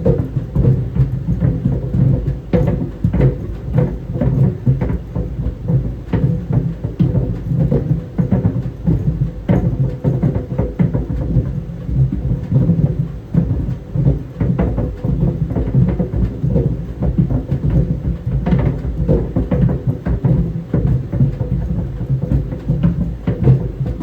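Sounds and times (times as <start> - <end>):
balls thudding in clothes dryer: 0.0 - 24.0.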